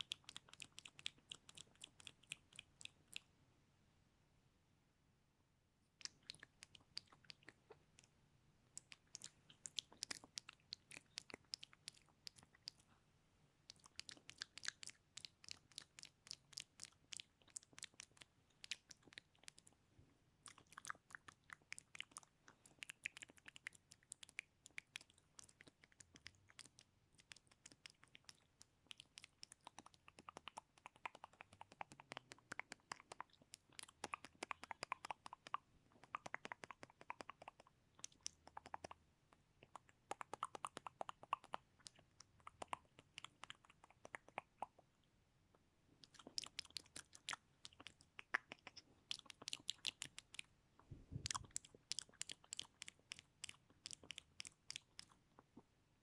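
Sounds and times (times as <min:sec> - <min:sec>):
wet mouth clicks and smacks: 0:00.0 - 0:03.3, 0:06.0 - 0:08.1, 0:08.7 - 0:12.9, 0:13.6 - 0:19.8, 0:20.4 - 0:44.9, 0:46.0 - 0:50.5, 0:51.1 - 0:55.6.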